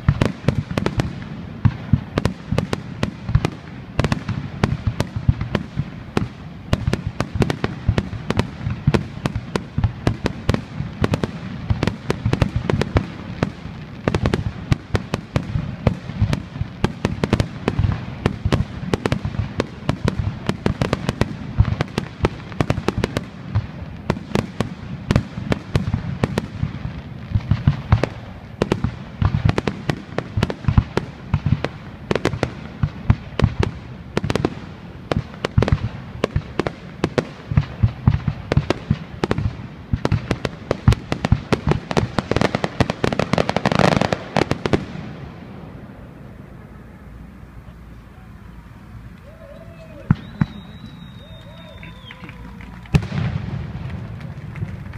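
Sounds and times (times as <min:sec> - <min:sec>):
fireworks bangs: 0:00.0 - 0:54.9.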